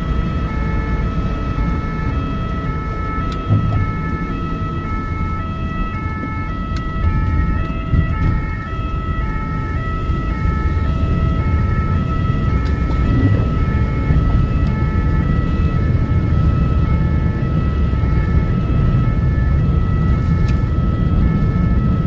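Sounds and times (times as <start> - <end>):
engine and road rumble: 0.0 - 22.0
two-tone ambulance siren: 0.0 - 22.0.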